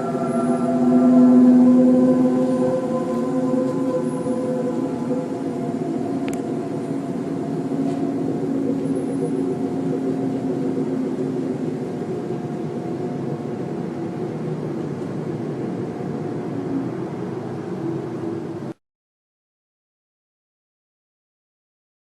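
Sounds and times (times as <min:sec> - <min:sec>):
loud droning hum: 0:00.0 - 0:18.8
rushing noise: 0:00.0 - 0:18.8.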